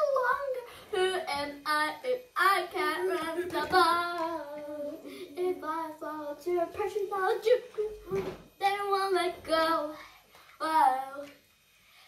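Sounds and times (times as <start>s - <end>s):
young child singing: 0.0s - 10.0s.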